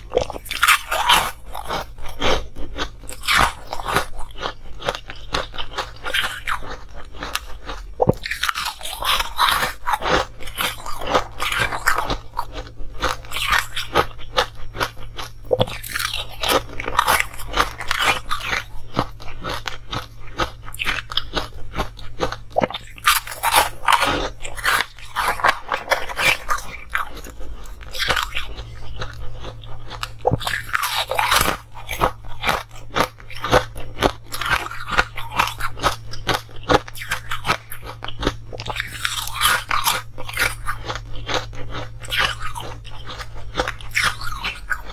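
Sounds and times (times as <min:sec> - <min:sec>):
ice cubes being chewed: 0:00.0 - 0:44.9.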